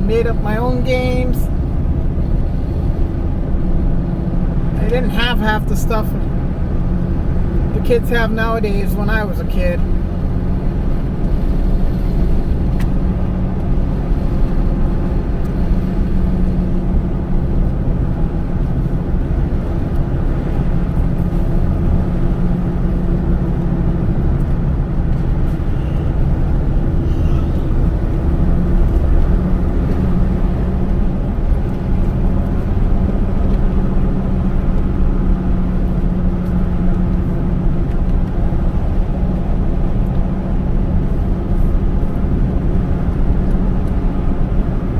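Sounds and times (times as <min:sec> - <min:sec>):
car engine hum: 0:00.0 - 0:44.9
road and tyre noise: 0:00.0 - 0:44.9.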